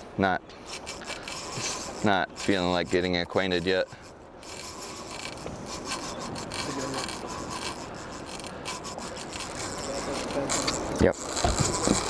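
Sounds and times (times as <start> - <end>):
fishing reel whirring: 0.6 - 12.0.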